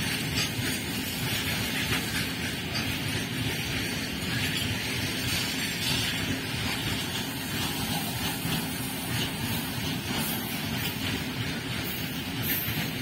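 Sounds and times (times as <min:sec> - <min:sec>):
freight wagons rolling past: 0:00.0 - 0:13.0.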